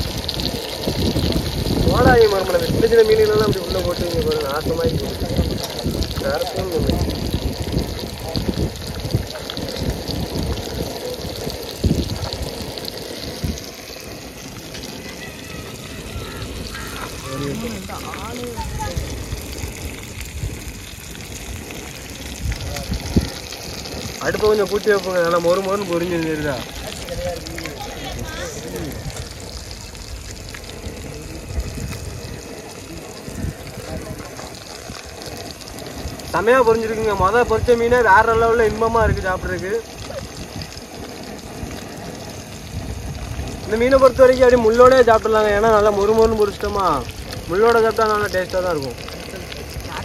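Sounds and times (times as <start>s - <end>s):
wind on microphone: 0.0s - 24.7s, 25.6s - 48.0s
fish sizzling in hot oil: 0.0s - 50.0s.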